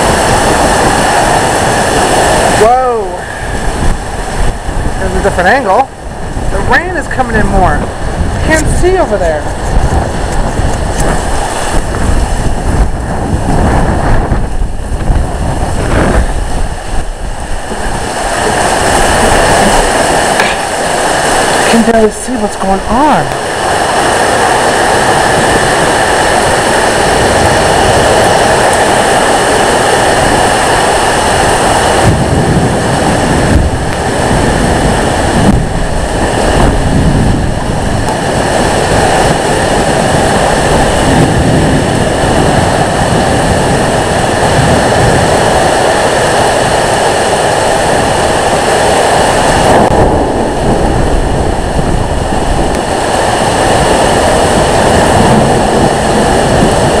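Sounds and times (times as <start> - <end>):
heavy rain: 0.0 - 57.0
strong wind rushing: 0.0 - 57.0
wind buffeting microphone: 0.0 - 57.0.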